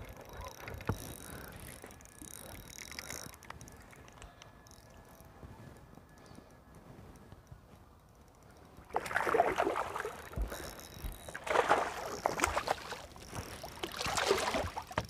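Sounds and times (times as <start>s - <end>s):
fishing reel gears whirring: 0.0s - 6.5s, 7.9s - 15.0s.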